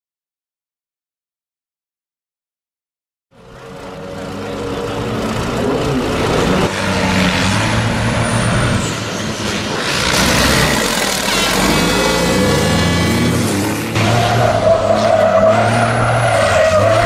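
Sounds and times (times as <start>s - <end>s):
truck engine running: 3.3s - 17.0s.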